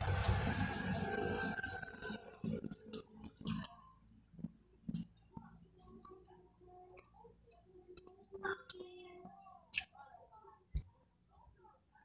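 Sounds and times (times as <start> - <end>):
faint steady high tone: 0.0 - 12.0.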